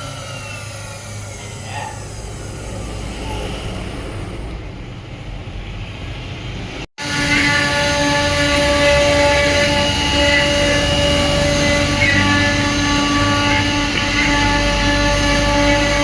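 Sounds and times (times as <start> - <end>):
cnc router carving wood: 0.0 - 4.2, 7.0 - 16.0
high machine whine: 0.0 - 5.9, 6.7 - 16.0.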